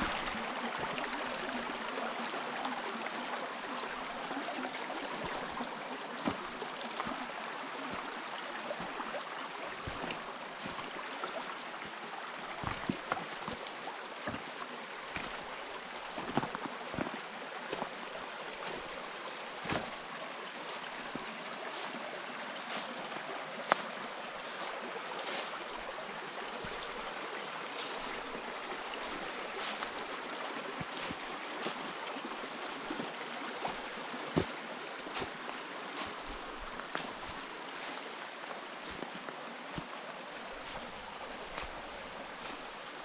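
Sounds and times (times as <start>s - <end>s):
footsteps on a trail: 0.0s - 2.3s, 3.0s - 43.0s.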